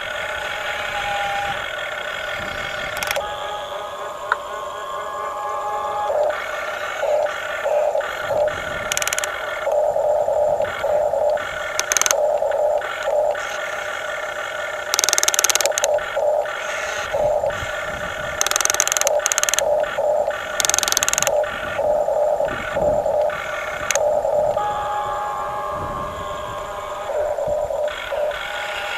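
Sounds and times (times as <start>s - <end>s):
electric gear motors whining: 0.0s - 28.9s.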